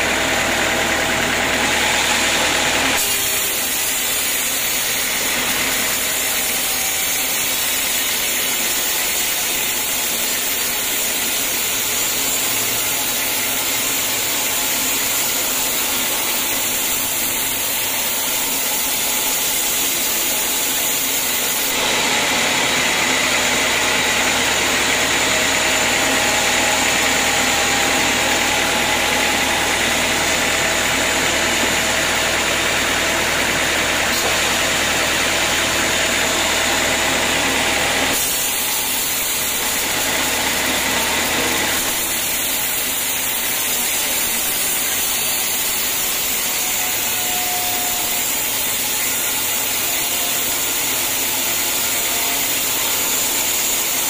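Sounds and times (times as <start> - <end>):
band saw sawing wood: 0.0 - 54.0.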